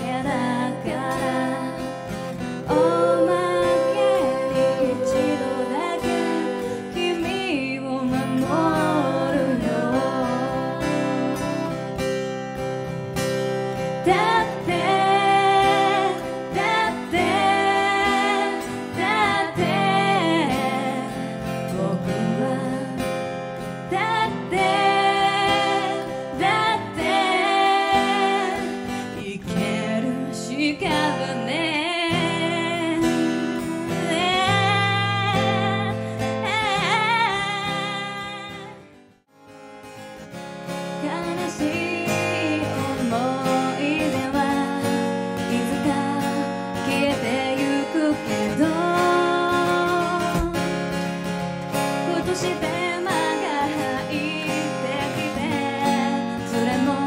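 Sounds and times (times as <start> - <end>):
woman singing: 0.0 - 12.1, 13.8 - 39.0, 40.9 - 50.8, 51.7 - 57.0
strummed acoustic guitar: 0.0 - 57.0.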